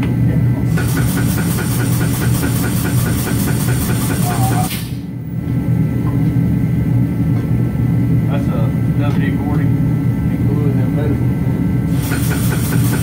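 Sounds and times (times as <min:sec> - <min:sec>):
jack drive humming: 0:00.0 - 0:13.0.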